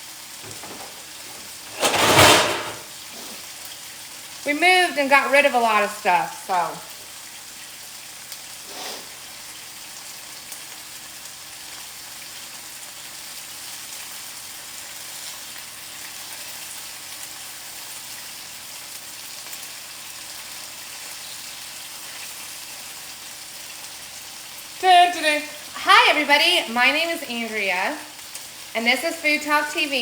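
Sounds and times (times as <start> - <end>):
meat sizzling in oil: 2.9 - 30.0.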